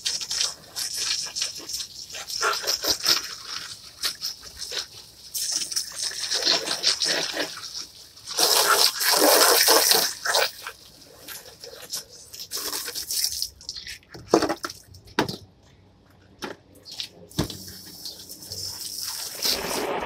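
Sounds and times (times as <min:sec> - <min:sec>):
hose water splashing: 0:00.0 - 0:14.8, 0:16.8 - 0:20.0.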